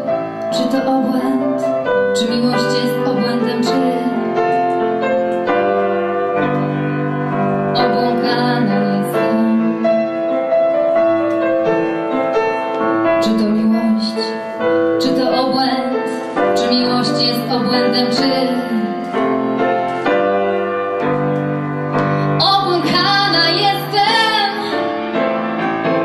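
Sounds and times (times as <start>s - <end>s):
grand piano ballad: 0.0s - 26.0s.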